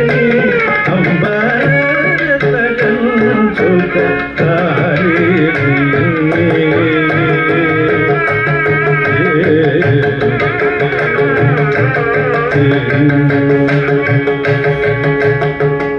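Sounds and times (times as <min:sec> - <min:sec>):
man singing: 0:00.0 - 0:14.9
hand drum strokes: 0:00.0 - 0:15.9
violin melody: 0:00.0 - 0:15.9.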